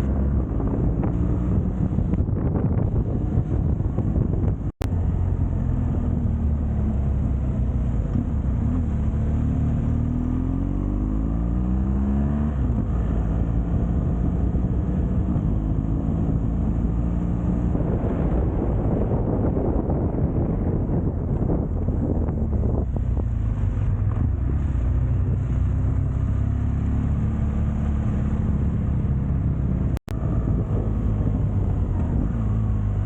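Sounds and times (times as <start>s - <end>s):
motorcycle engine accelerating: 0.0s - 33.0s
wind rushing over microphone: 0.0s - 33.0s.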